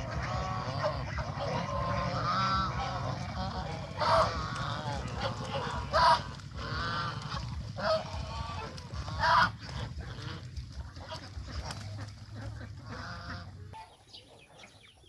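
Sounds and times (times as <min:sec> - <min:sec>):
loud goose honks: 0:00.0 - 0:14.2
geese calling: 0:00.0 - 0:15.0.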